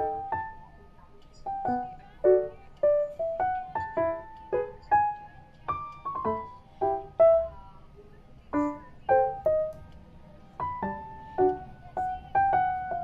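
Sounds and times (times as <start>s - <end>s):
piano music: 0.0s - 7.9s, 8.5s - 13.0s.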